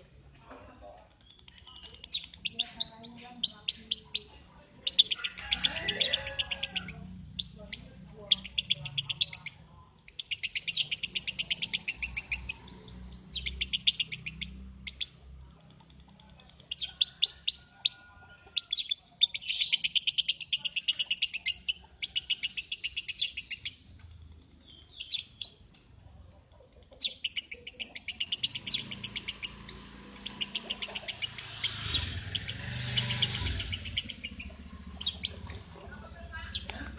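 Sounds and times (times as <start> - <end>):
lovebird chattering chirps: 1.2 - 18.0, 18.6 - 25.9, 26.8 - 35.6.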